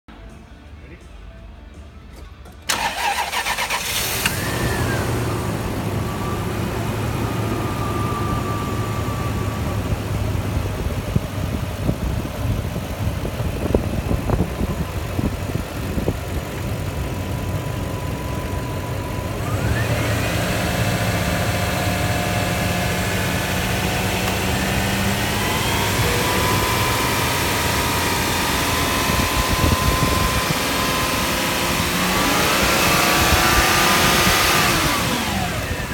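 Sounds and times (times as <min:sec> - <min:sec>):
car engine starting and idling: 0:02.1 - 0:35.9.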